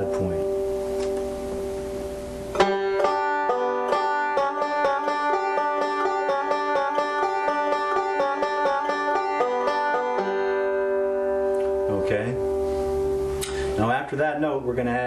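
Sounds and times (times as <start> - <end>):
banjo picking: 0.0 - 14.2.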